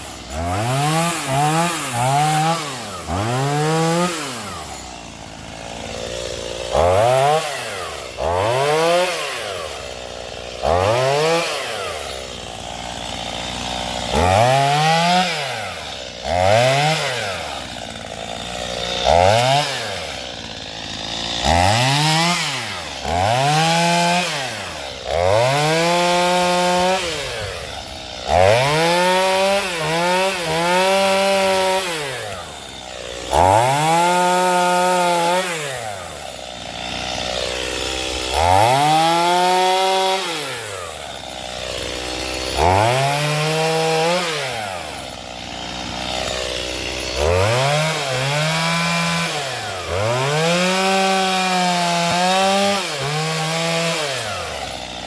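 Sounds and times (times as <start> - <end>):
chainsaw cutting wood: 0.0 - 55.0
chainsaw revving and idling: 0.0 - 55.0.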